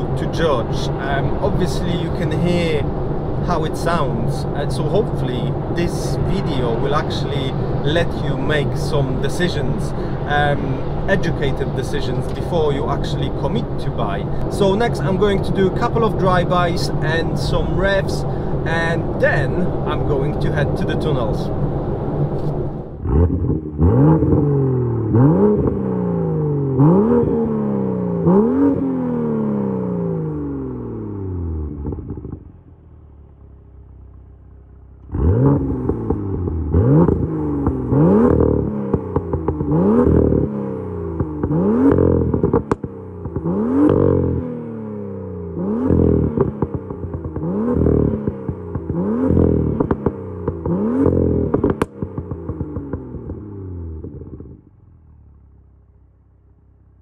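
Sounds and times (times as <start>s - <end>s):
car engine idling: 0.0s - 23.2s, 29.6s - 57.0s
car engine revving: 0.0s - 55.5s
exhaust cracks: 0.0s - 57.0s.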